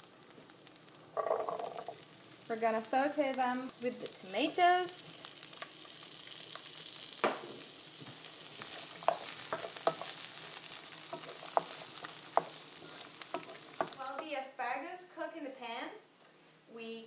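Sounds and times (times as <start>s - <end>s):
vegetables sizzling in oil: 0.0s - 14.4s.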